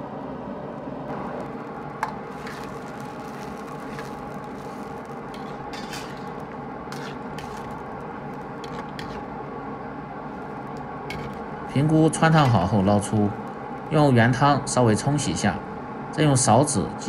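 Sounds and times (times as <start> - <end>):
water boiling in a wok: 0.6 - 15.5.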